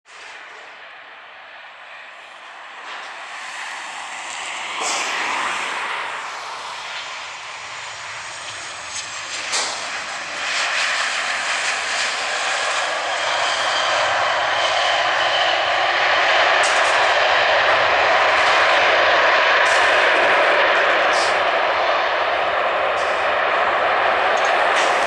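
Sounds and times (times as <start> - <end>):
jet engines whining: 0.1 - 25.0.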